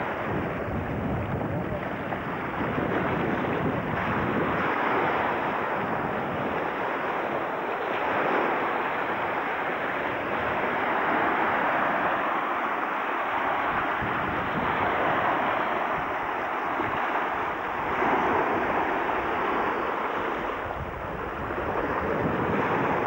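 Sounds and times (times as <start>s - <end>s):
surf rushing: 0.0s - 23.0s.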